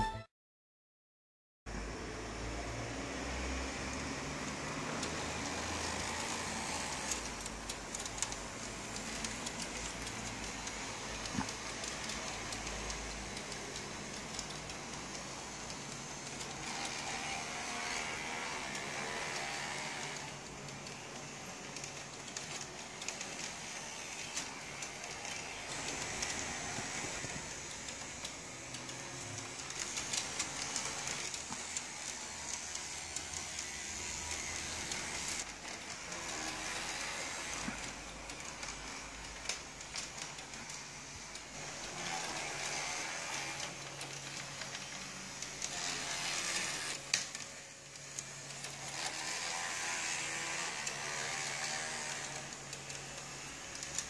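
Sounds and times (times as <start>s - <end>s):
model tram motor whirring: 1.7s - 54.0s
wheels rolling on rails: 2.2s - 54.0s.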